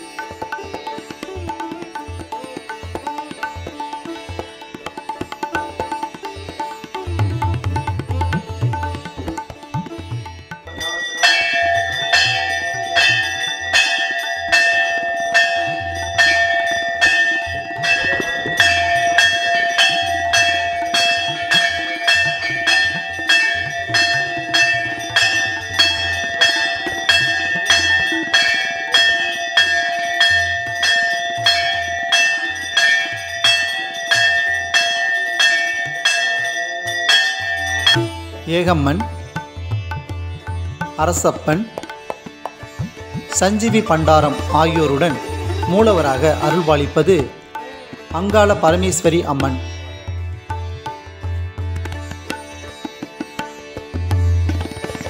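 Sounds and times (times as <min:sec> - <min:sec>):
temple bell ringing: 0:00.0 - 0:55.0.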